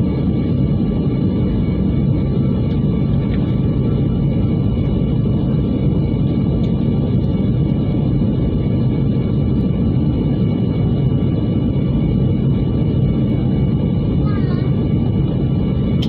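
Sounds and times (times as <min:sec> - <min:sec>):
airplane cabin roar: 0:00.0 - 0:16.0.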